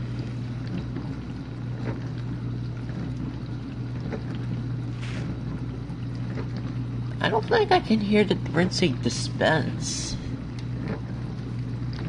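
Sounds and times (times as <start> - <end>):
dishwasher pump humming: 0.0 - 12.0
water spraying and sloshing: 0.0 - 12.0.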